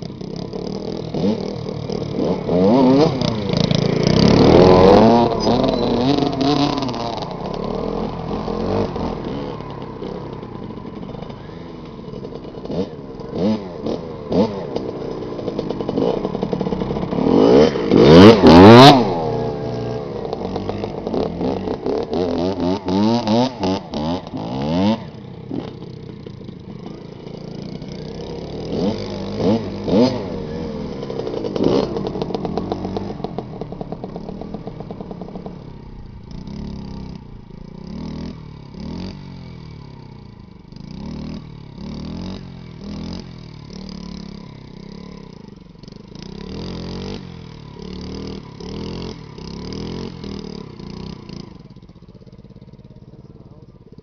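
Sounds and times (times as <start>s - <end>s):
motorcycle engines revving: 0.0s - 54.0s.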